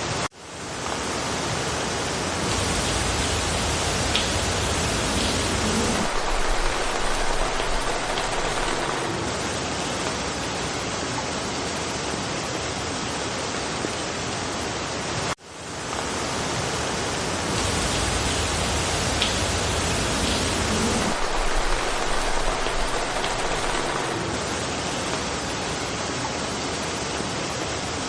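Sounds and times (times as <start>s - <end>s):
steady rain in a forest: 0.0s - 28.0s.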